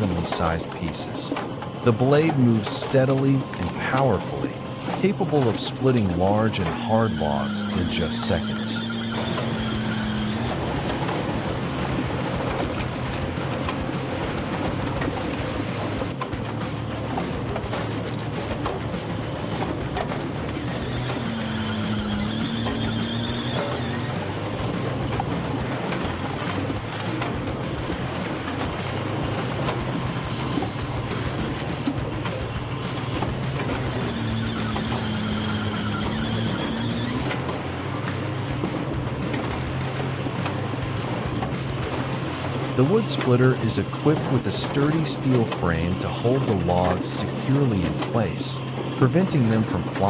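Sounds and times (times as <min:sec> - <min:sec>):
wood splitter engine hum: 0:00.0 - 0:50.0.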